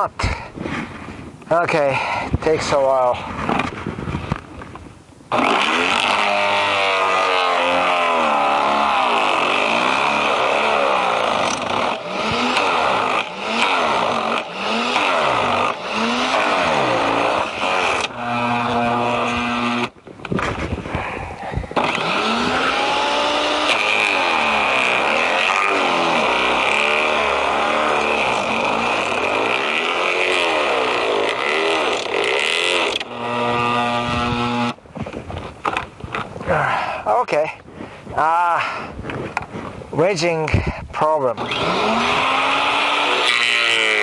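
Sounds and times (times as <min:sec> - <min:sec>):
branch shredder chewing branches: 0:00.0 - 0:37.4, 0:38.2 - 0:44.0.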